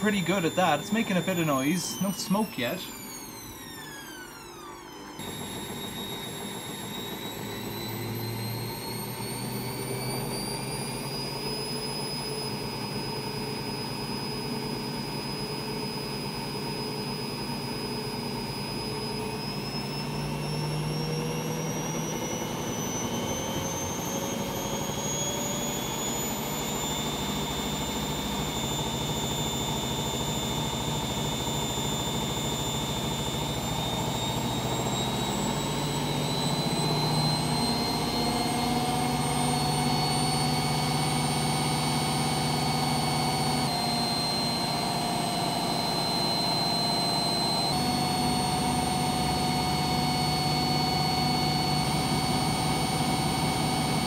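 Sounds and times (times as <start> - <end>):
washing machine spinning with whine: 0.0 - 54.0.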